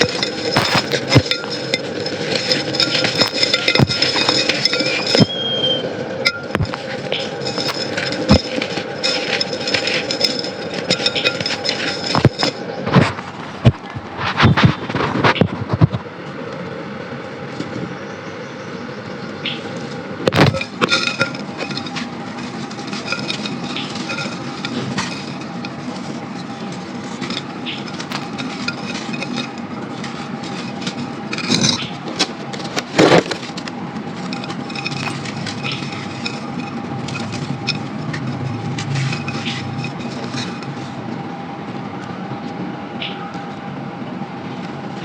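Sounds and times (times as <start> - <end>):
sand clumps crackling in clay pot: 0.0 - 15.4, 19.5 - 41.3.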